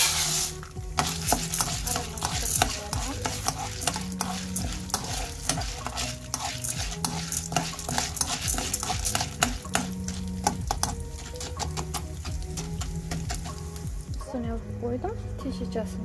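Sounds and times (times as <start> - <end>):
spoon stirring and scraping: 0.0 - 14.0
popcorn kernels rattling in pan: 0.0 - 14.1
fat sizzling: 0.0 - 14.4.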